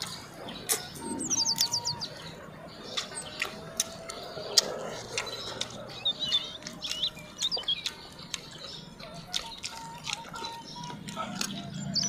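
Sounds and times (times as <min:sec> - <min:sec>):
birds chirping: 0:00.0 - 0:12.0
wet eating mouth sounds: 0:00.0 - 0:12.0.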